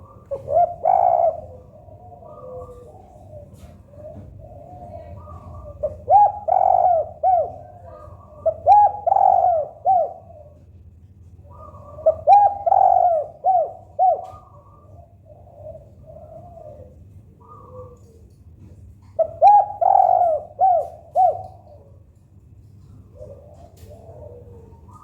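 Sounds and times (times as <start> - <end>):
dove cooing: 0.0 - 25.0
softer cooing from other doves: 0.0 - 25.0.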